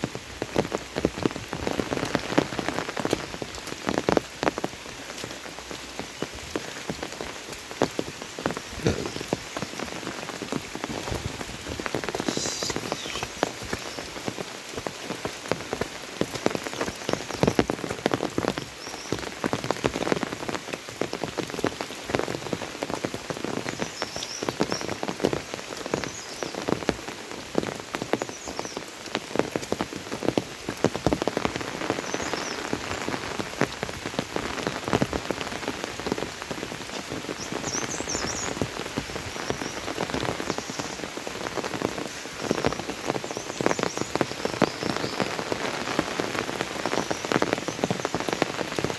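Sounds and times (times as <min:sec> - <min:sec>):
rain patter: 0:00.0 - 0:48.9.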